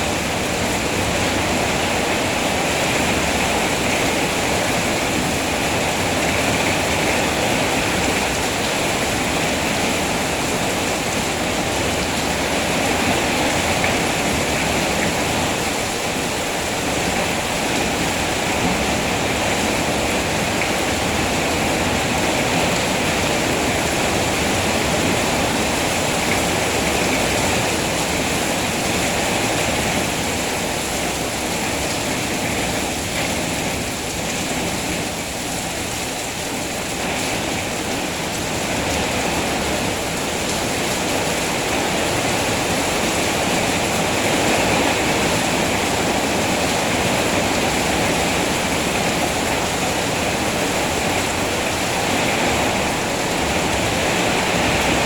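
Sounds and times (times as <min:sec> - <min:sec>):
rain falling steadily: 0:00.0 - 0:55.0.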